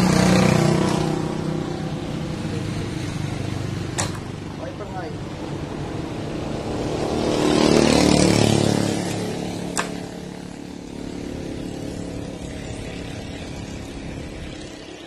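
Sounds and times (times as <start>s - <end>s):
vehicle engine passing: 0.0s - 15.0s.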